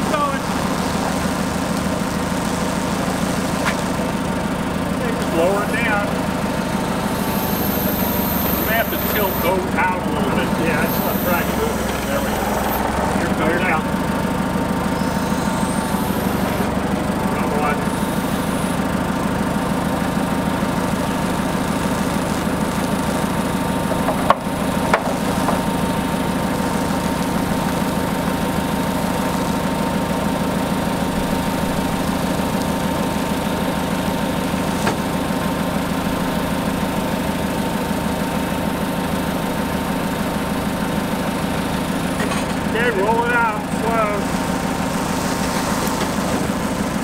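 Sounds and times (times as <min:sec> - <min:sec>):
forklift engine idling: 0:00.0 - 0:47.0.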